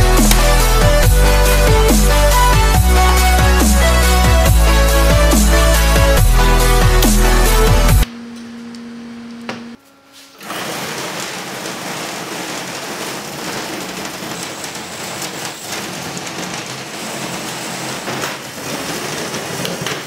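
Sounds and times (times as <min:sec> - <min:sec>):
wiper motors running: 0:00.0 - 0:20.0.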